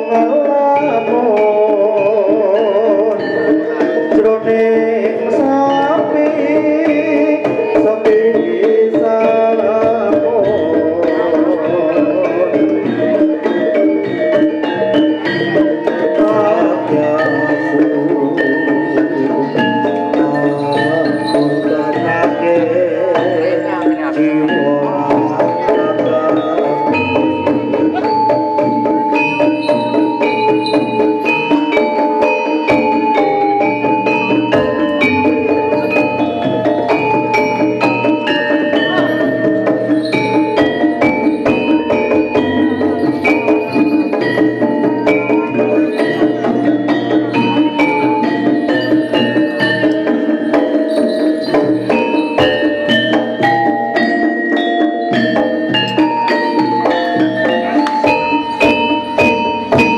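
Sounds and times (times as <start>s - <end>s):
hand drums beating: 0.0s - 59.9s
ringing bronze metallophones: 0.0s - 59.9s.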